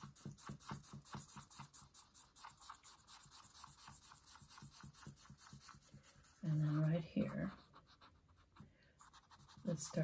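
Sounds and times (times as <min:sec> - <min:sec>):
charcoal scratching on paper: 0:00.0 - 0:10.0.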